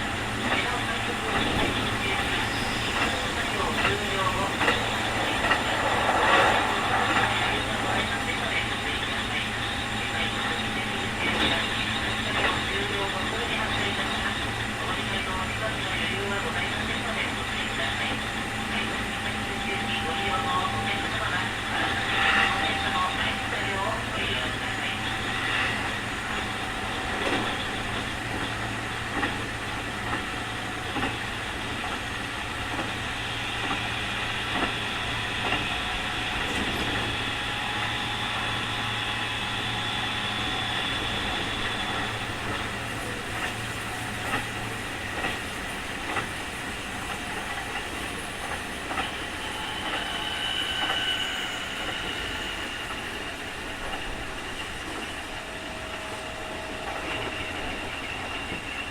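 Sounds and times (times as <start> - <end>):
train running at speed: 0.0 - 58.9.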